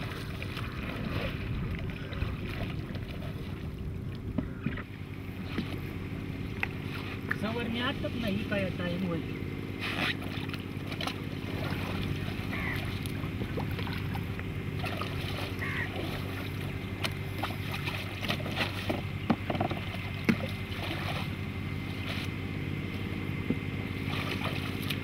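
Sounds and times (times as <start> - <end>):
knocks and splashes in water: 0.0 - 8.5, 10.0 - 25.0
steady low drone: 0.0 - 25.0.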